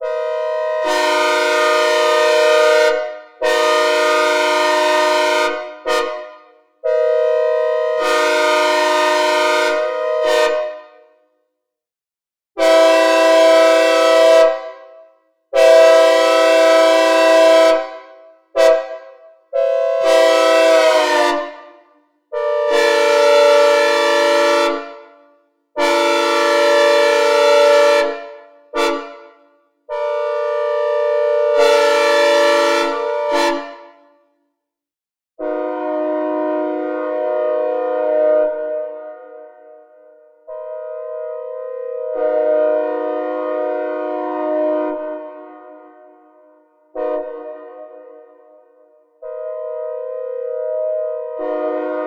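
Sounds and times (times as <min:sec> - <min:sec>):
train horn chord blasts: 0:00.0 - 0:11.3, 0:12.6 - 0:34.2, 0:35.4 - 0:52.0.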